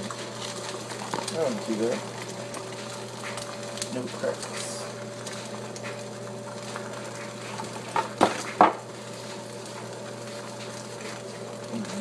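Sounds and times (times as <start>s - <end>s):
eggs frying in a pan: 0.0s - 12.0s
steady electrical hum: 0.0s - 12.0s.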